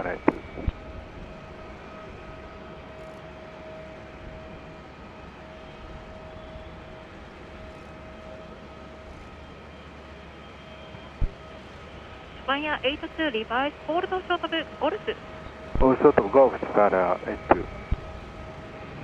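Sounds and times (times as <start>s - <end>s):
jet engines idling with whine: 0.0s - 19.0s.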